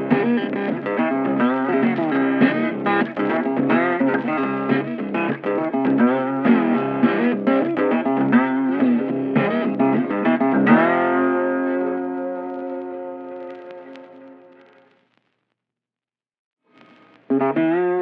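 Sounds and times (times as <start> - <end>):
guitar tune: 0.0 - 14.9, 16.7 - 18.0.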